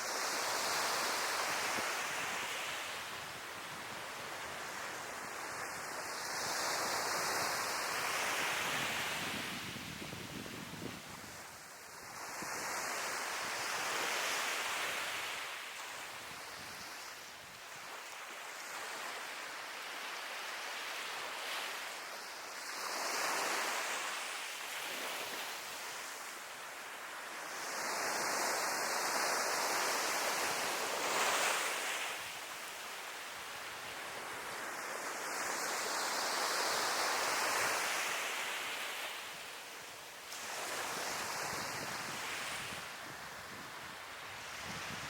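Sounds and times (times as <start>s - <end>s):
sea waves breaking on shore: 0.0s - 45.0s.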